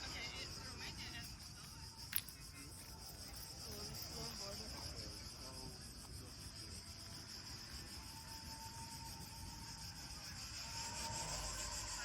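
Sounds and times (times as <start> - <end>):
insects chirring: 0.0 - 12.0
low outdoor hum: 0.0 - 12.0.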